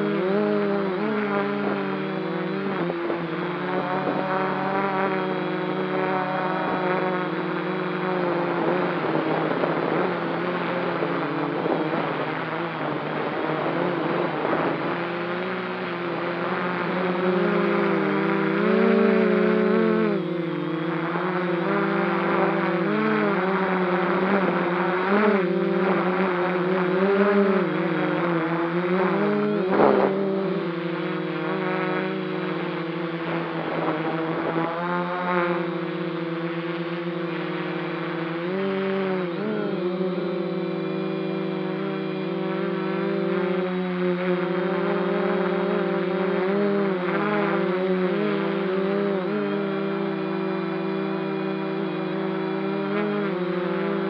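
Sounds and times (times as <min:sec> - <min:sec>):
drone propellers buzzing: 0:00.0 - 0:54.0.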